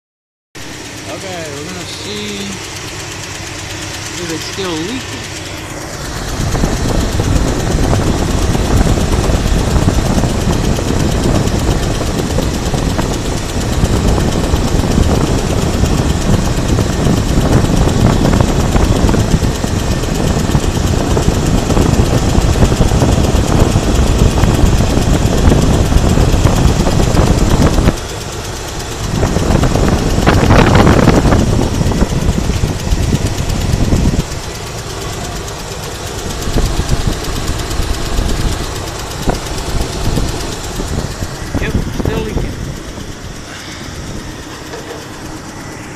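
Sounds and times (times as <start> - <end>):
car engine idling: 0.6 - 45.9.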